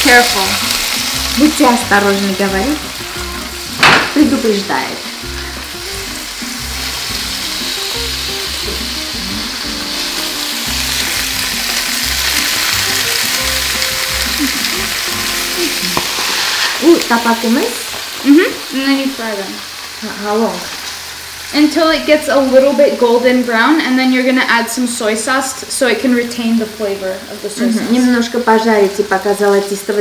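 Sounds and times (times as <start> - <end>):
tofu sizzling in oil: 0.0 - 30.0.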